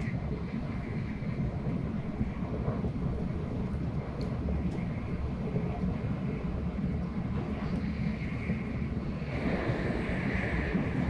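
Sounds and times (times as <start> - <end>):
train cabin rumble and hiss: 0.0 - 11.0.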